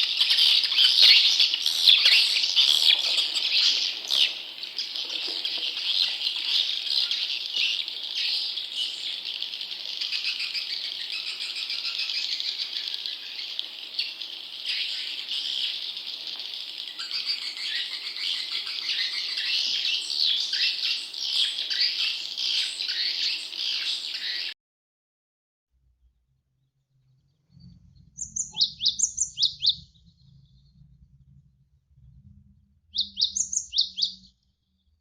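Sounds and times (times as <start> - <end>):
songbirds twittering: 0.0 - 24.6, 27.6 - 30.8, 32.9 - 34.4.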